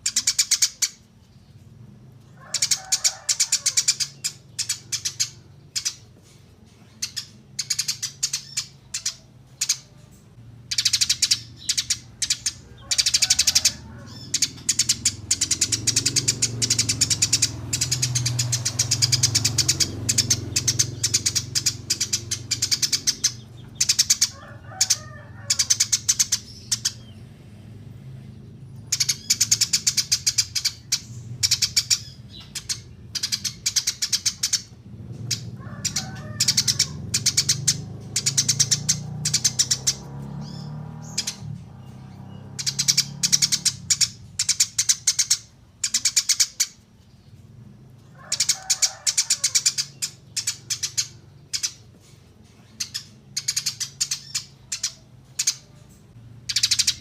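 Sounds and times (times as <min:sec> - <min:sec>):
songbird chirping and trilling: 0:00.0 - 0:57.0.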